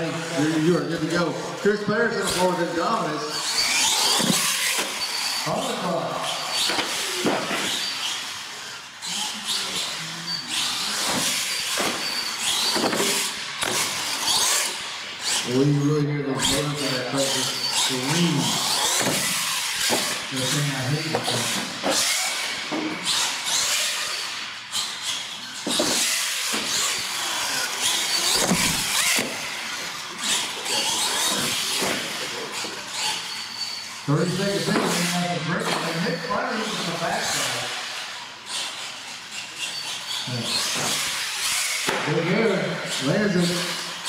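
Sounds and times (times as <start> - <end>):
electric motor whining: 0.0 - 44.0.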